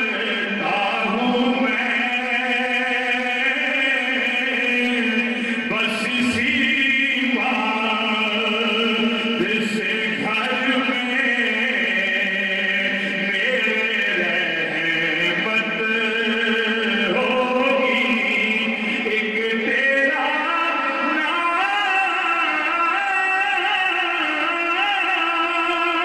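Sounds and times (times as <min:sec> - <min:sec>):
man singing devotional song: 0:00.0 - 0:26.0.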